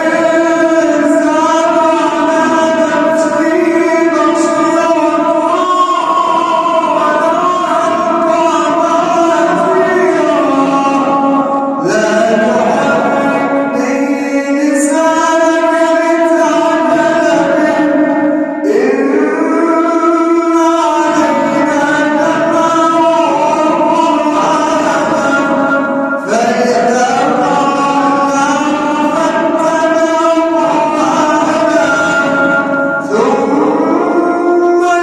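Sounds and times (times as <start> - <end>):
man chanting melodic recitation: 0.0 - 35.0.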